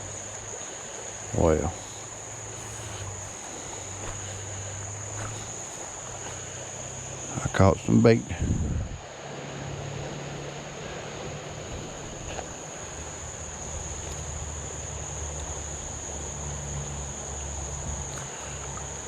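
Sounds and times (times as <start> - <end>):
creek water flowing: 0.0 - 19.0
insects droning: 0.0 - 19.0.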